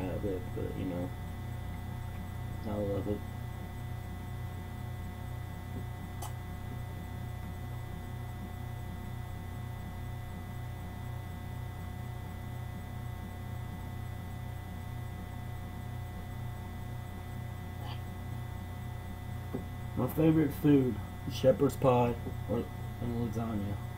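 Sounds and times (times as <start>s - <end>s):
steady electrical hum: 0.0s - 23.9s
thin high whine: 0.0s - 23.9s.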